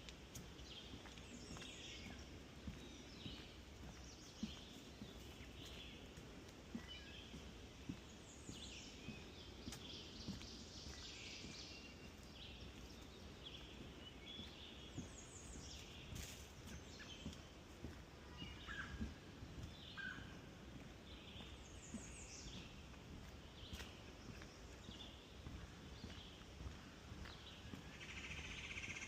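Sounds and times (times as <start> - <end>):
footsteps on wooden boardwalk: 0.0 - 29.0
birds singing and calling: 0.1 - 29.0.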